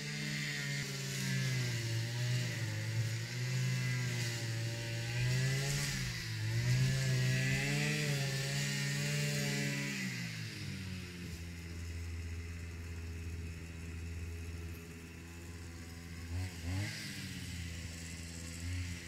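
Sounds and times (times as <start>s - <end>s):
string trimmer engine running: 0.0s - 19.0s.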